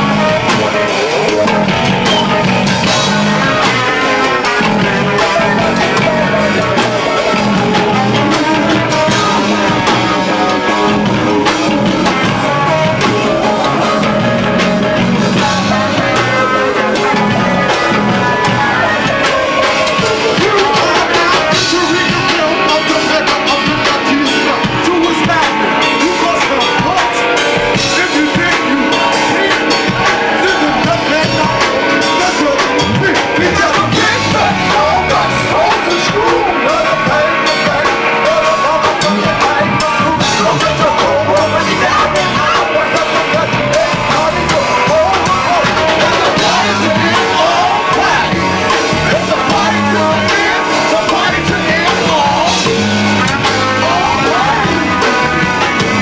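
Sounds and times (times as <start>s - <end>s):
bass line: 0.0s - 56.0s
funk band playing: 0.0s - 56.0s
person singing: 0.0s - 56.0s.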